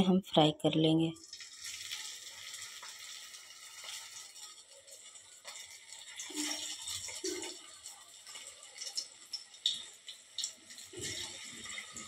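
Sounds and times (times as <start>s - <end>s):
hot oil sizzling: 1.2s - 12.0s
oil crackles and pops: 1.2s - 12.0s.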